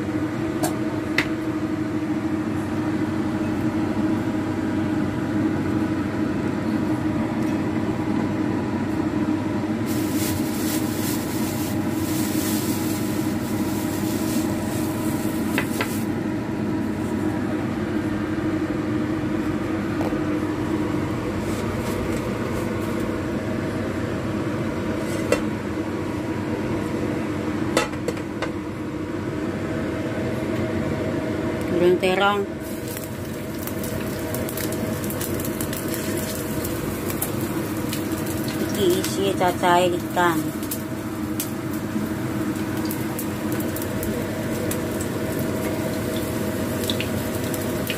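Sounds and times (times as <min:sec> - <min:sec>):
extractor fan humming: 0:00.0 - 0:47.9.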